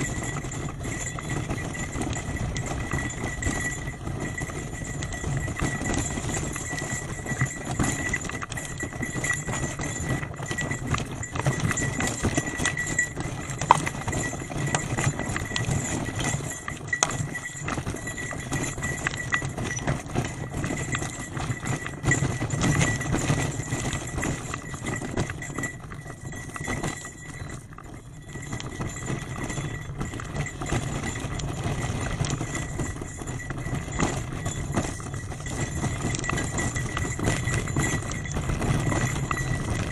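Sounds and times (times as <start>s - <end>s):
bicycle rattling over rough road: 0.0s - 39.9s.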